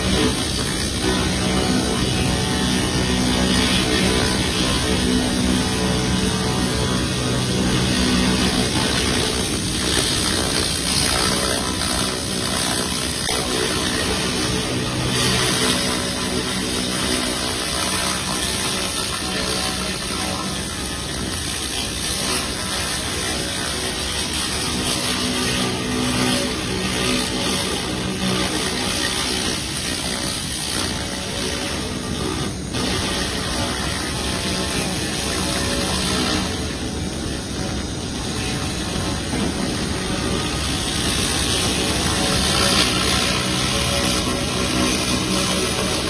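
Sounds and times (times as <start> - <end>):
laser crackling buzz: 0.0 - 46.0.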